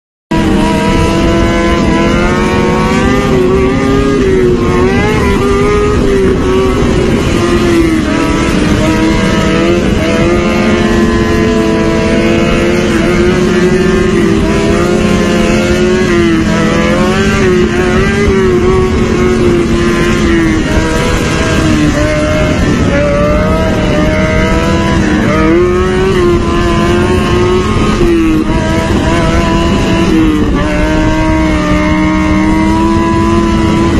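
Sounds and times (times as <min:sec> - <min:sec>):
motorcycle engine revving: 0:00.3 - 0:33.9.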